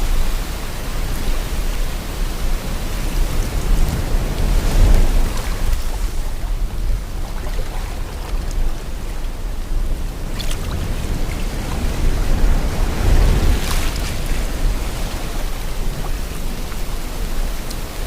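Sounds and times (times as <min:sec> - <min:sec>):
sea water washing: 0:00.0 - 0:18.0
wind blowing: 0:00.0 - 0:18.0.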